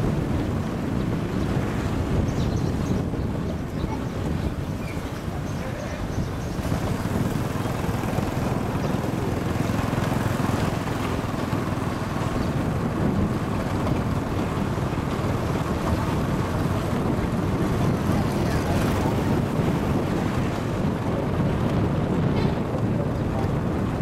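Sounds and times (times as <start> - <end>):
motorbike running: 0.0 - 24.0
wind rumbling over microphone: 0.0 - 24.0.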